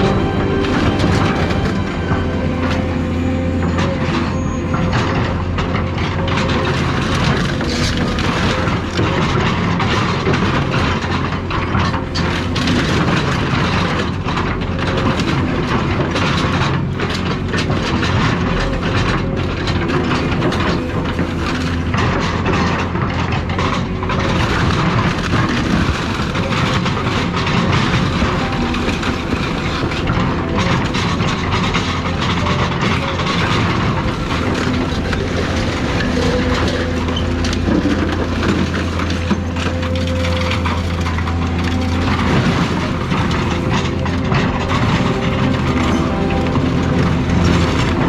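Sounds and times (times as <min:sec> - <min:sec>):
demolition machine engine hum: 0:00.0 - 0:48.0
metal clanking and crunching: 0:00.0 - 0:48.0.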